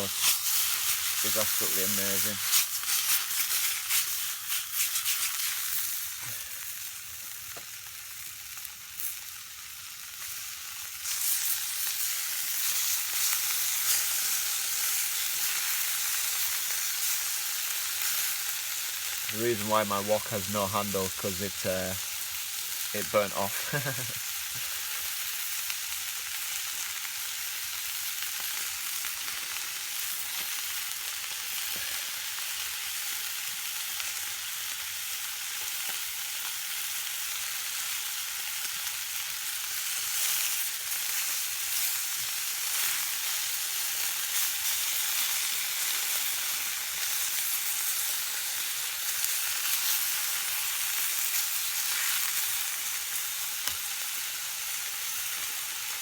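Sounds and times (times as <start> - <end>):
chicken sizzling in a wok: 0.0 - 56.0.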